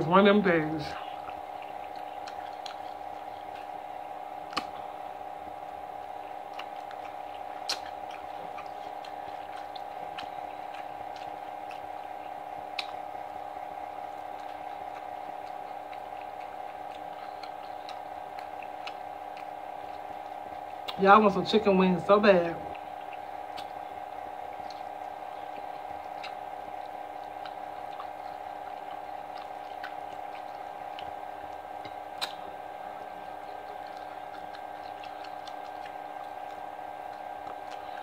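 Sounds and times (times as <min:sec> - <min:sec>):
steady hum: 0:00.0 - 0:38.0
chewing mouth sounds: 0:00.2 - 0:21.6, 0:22.4 - 0:38.0.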